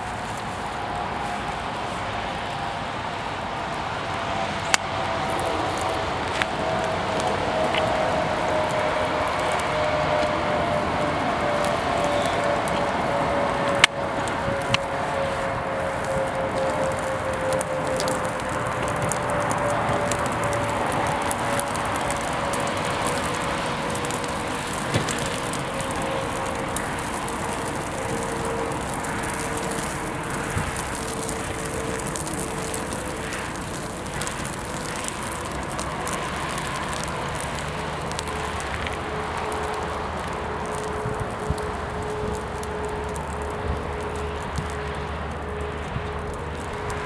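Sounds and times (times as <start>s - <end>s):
flames burning with crackling: 0.0s - 47.0s.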